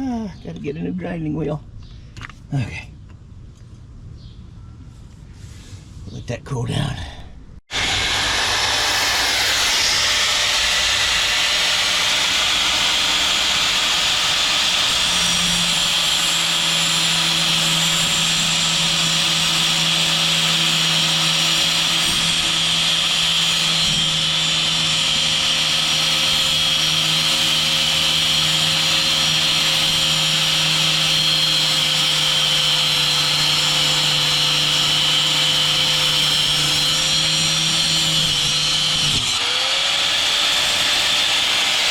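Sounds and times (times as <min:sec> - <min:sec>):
angle grinder cutting steel: 0:07.7 - 0:41.9.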